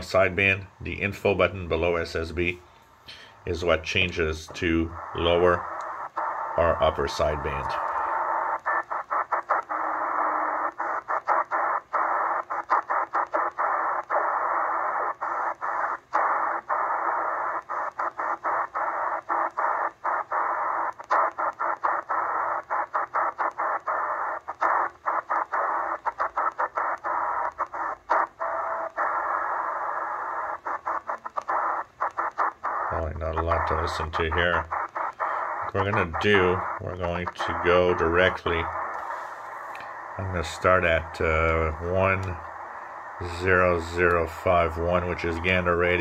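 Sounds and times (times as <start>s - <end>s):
short low radio tones: 0.0s - 20.2s, 21.2s - 46.0s
radio static: 0.0s - 46.0s.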